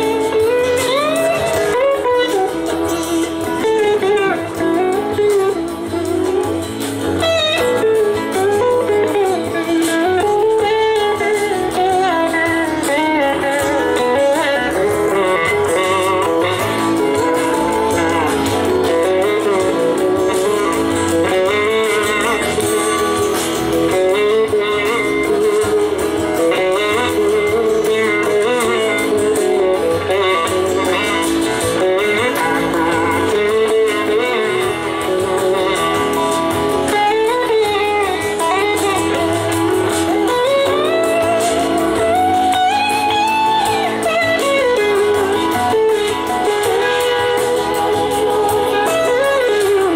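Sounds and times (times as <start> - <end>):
electric slide guitar lead: 0.0 - 49.9
live blues band: 0.0 - 49.9.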